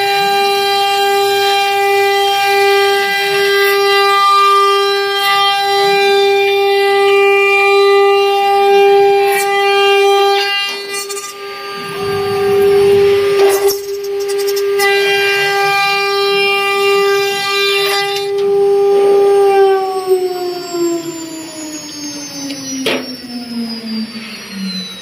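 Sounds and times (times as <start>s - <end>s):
router spindles whining: 0.0s - 25.0s.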